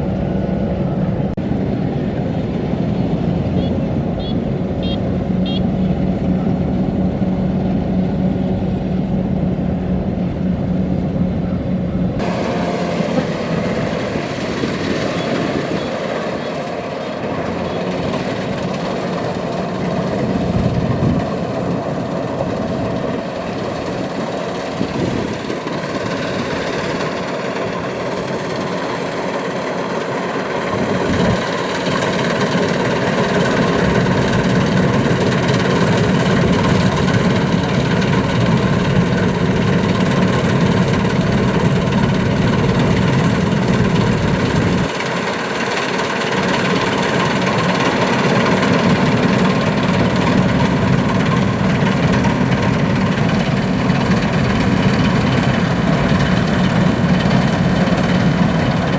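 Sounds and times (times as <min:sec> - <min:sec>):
combine harvester engine humming: 0:00.0 - 0:58.9
noisy machine wash: 0:11.3 - 0:58.9.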